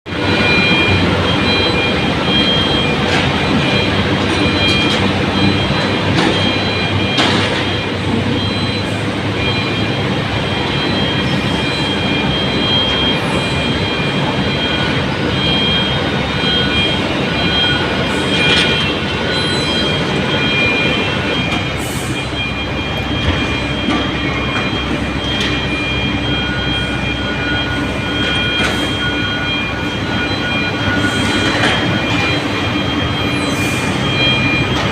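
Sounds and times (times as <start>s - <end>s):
excavator engine and tracks rumbling: 0.0s - 34.9s.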